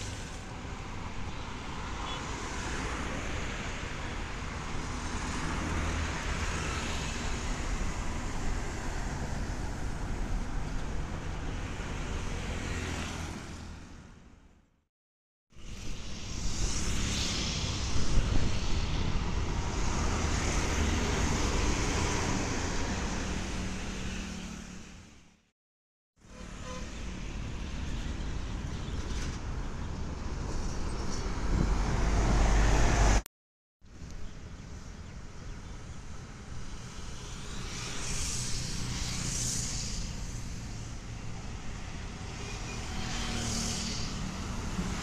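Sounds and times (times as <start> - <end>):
buses and motorcycles passing: 0.0 - 14.6, 15.6 - 25.4, 26.2 - 33.3, 34.2 - 45.0.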